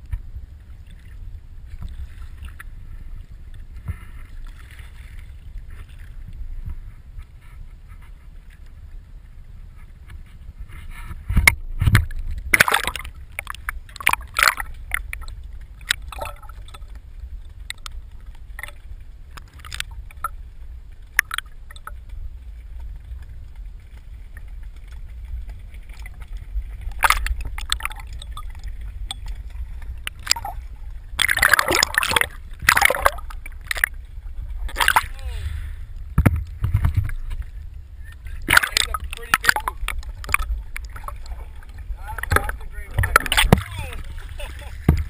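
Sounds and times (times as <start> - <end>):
low rumble of water on camera: 0.0 - 45.0
sea water sloshing and splashing: 0.0 - 45.0.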